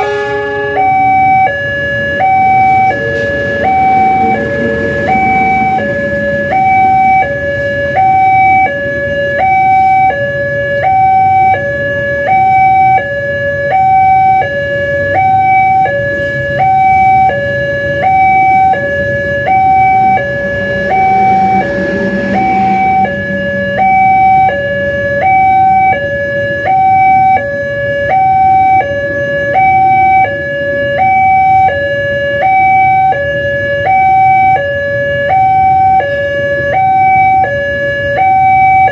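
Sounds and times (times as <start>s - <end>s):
low traffic rumble: 0.0s - 38.9s
two-tone siren: 0.0s - 38.9s.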